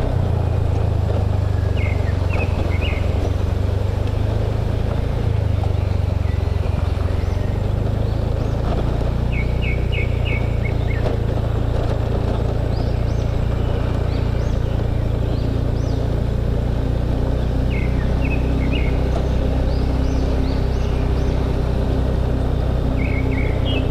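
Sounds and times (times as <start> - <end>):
birds chirping: 0.0 - 23.9
motorbike engine running: 0.0 - 23.9
road and wind noise: 0.0 - 23.9.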